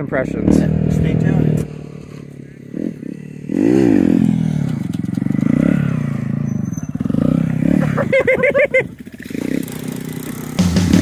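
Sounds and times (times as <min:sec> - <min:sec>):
mini bike engine revving: 0:00.0 - 0:11.0.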